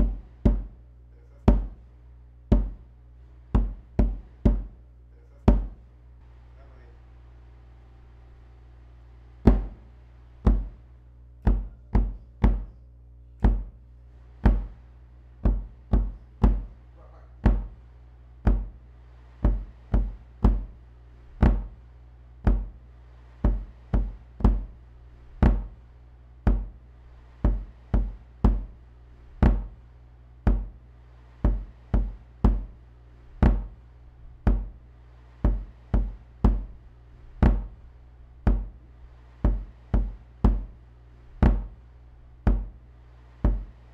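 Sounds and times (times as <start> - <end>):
bass drum beat: 0.0 - 6.2, 8.9 - 43.9
low hum: 0.0 - 43.9.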